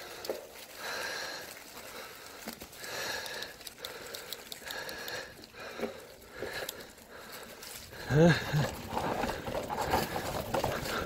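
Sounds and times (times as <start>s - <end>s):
person breathing slowly: 0.0s - 11.0s.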